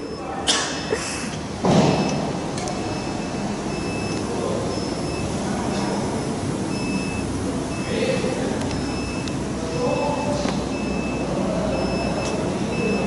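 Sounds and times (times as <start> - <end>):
factory machinery noise: 0.0 - 13.0.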